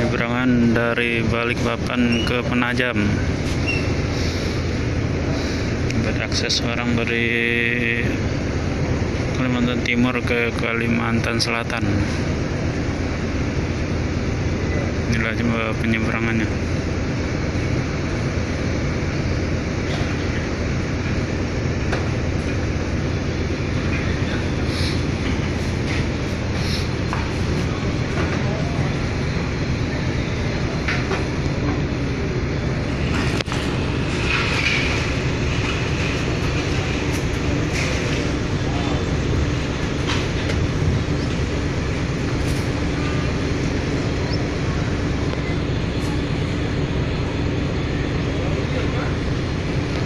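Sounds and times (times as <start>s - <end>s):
diesel engines rumbling: 0.0s - 50.0s.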